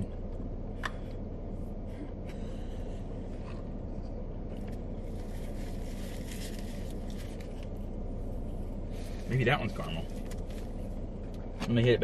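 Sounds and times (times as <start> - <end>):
car idling rumble: 0.0 - 12.0.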